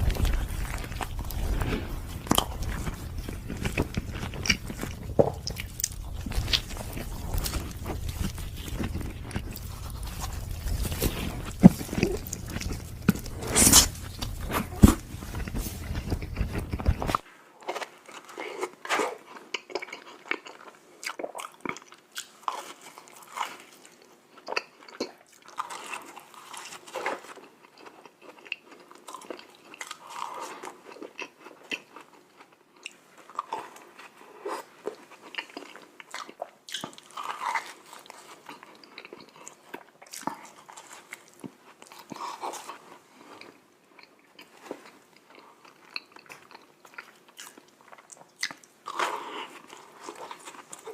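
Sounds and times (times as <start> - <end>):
chewing donuts: 0.0 - 50.9.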